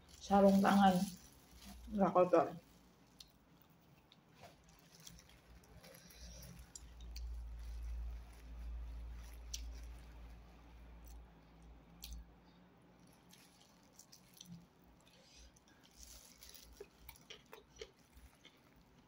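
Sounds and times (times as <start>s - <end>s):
person chewing food: 2.7s - 19.0s.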